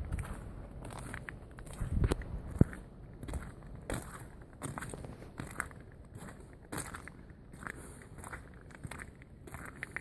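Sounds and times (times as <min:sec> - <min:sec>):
footsteps crunching through snow: 0:00.0 - 0:10.0.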